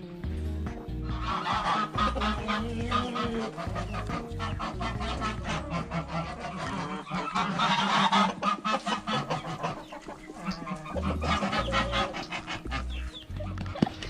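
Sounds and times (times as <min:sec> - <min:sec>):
background music with steady beat: 0:00.0 - 0:14.0
geese honking: 0:00.7 - 0:14.0.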